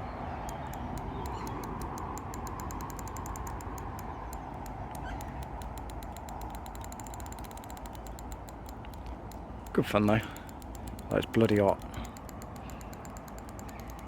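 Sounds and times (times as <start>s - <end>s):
fishing reel clicking: 0.4s - 14.0s.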